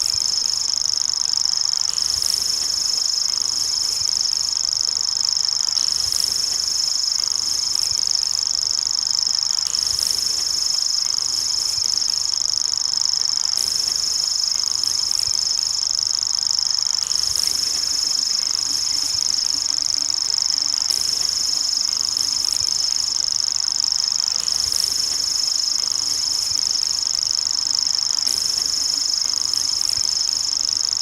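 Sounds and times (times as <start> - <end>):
bird reeling high-pitched trill: 1.9 - 31.0.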